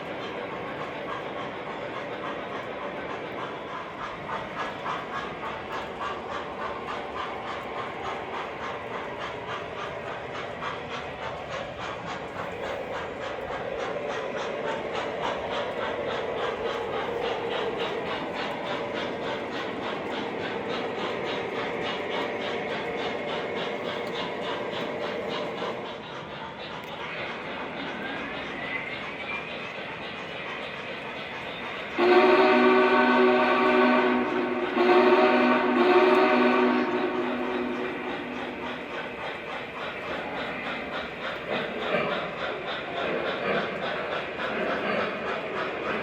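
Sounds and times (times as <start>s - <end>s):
model train rhythmic beat: 0.0s - 46.0s
model train wheels on track: 0.0s - 46.0s.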